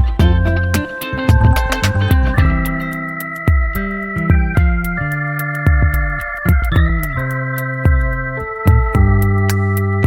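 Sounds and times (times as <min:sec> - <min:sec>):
plucked guitar music with bass: 0:00.0 - 0:10.0.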